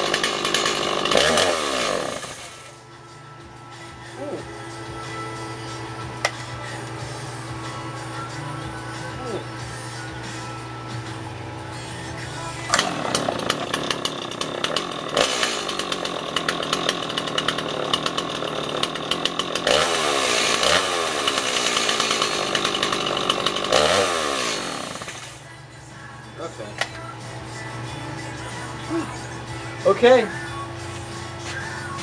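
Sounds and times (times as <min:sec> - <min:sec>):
chainsaw idling and revving: 0:00.0 - 0:02.9, 0:03.8 - 0:25.5, 0:26.4 - 0:32.0.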